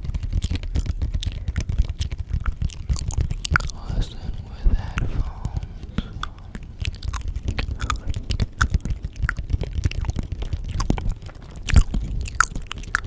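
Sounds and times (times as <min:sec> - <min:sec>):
clicks and crackles: 0:00.0 - 0:13.0
low rumble: 0:02.3 - 0:12.8.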